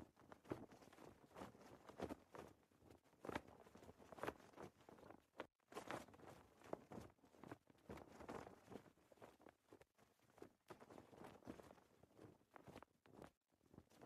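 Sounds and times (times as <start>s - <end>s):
flag flapping in wind: 0.0s - 14.0s.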